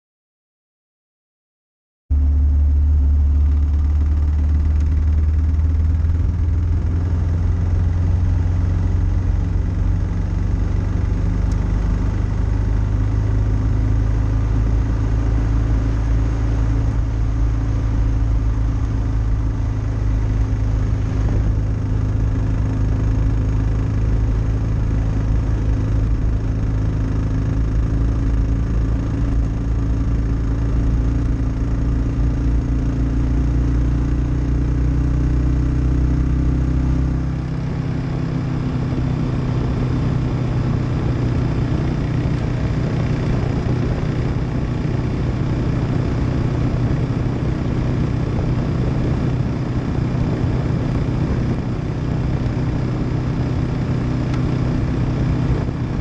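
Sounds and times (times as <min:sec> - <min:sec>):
motorcycle engine cruising: 0:02.1 - 0:56.0.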